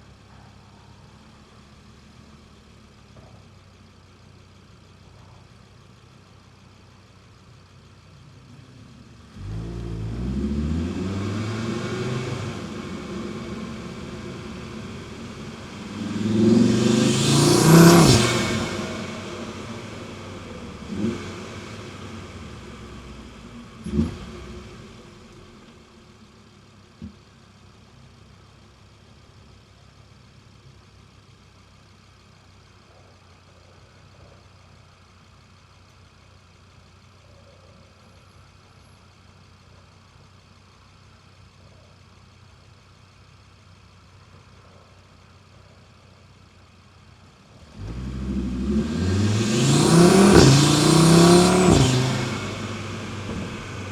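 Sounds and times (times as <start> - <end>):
car engine revving and idling: 0.0 - 53.9.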